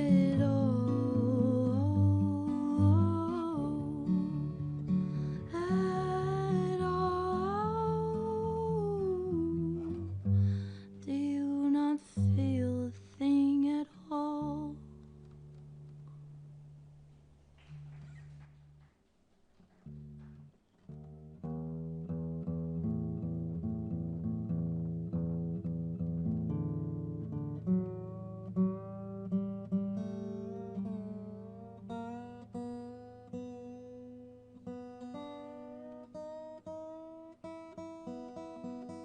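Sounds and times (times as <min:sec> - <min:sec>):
acoustic guitar playing: 0:00.0 - 0:18.9, 0:19.5 - 0:39.0.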